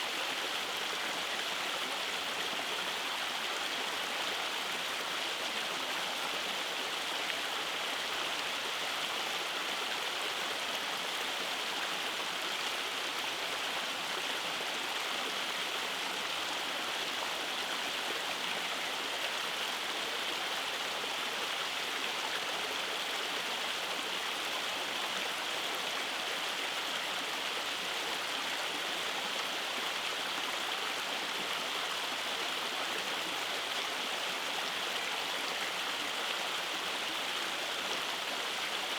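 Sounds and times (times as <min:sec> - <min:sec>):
stream running over cascades: 0:00.0 - 0:38.9.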